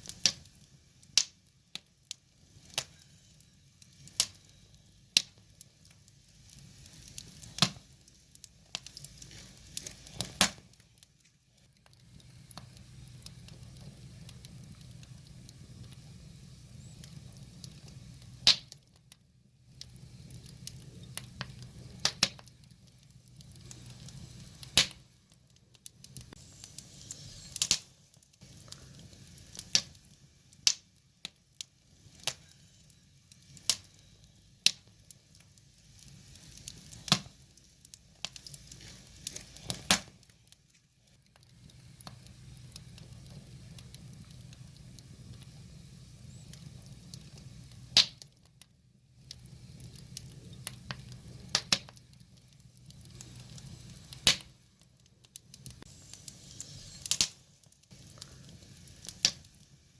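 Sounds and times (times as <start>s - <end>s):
firewood crackling and popping: 0.0s - 59.9s
low rush of flames: 0.0s - 59.9s.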